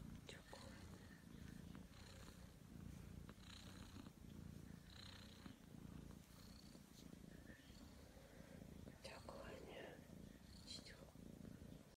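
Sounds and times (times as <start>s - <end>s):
cat purring: 0.0s - 11.9s.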